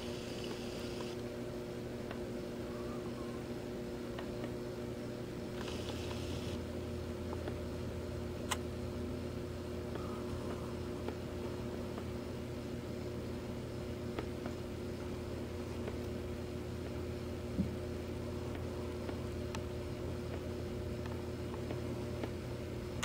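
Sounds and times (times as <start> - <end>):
aquarium filter pump humming: 0.0 - 23.0.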